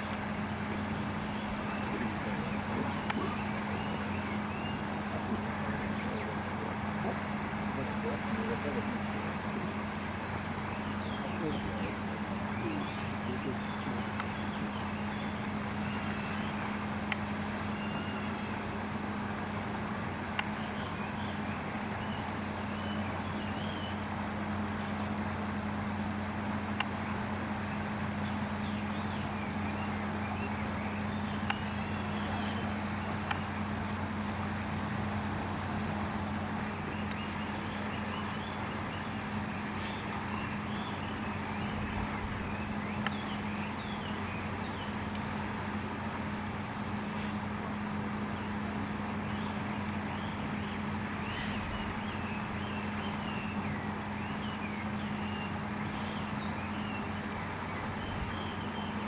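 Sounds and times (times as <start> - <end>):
small birds chirping: 0.0 - 59.0
steady low hum: 0.0 - 59.0.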